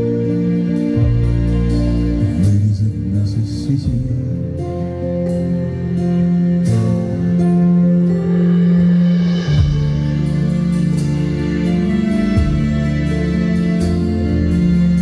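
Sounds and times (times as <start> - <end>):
band playing instrumental: 0.0 - 15.0
guitar: 0.0 - 15.0
held bass notes: 0.0 - 15.0.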